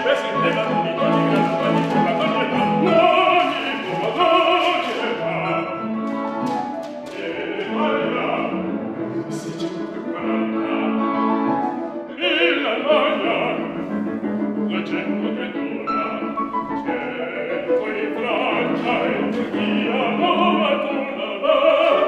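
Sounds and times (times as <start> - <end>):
instrumental accompaniment: 0.0 - 22.0
opera singing: 0.0 - 22.0.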